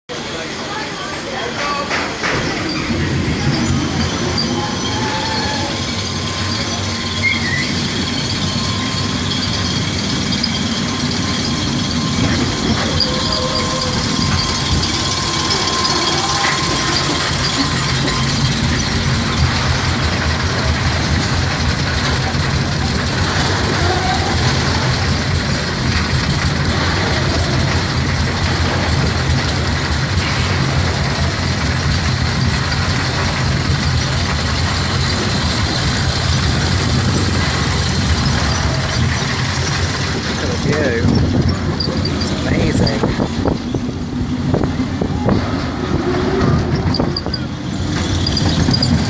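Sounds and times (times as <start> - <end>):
lift chain clattering: 0.1 - 49.0
low hum of lift drive: 2.2 - 49.0.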